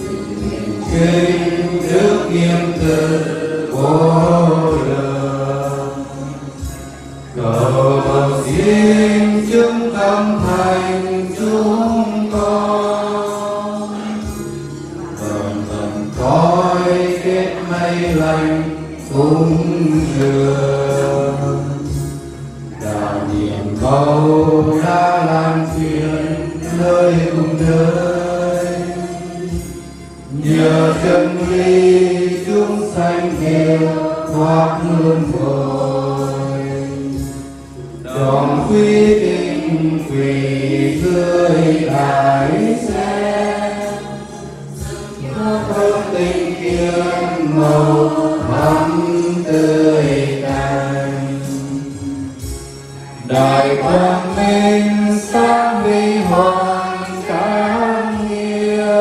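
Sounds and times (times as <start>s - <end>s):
voices chanting in unison: 0.0s - 6.6s, 7.4s - 21.8s, 22.7s - 37.3s, 38.0s - 52.3s, 53.2s - 59.0s.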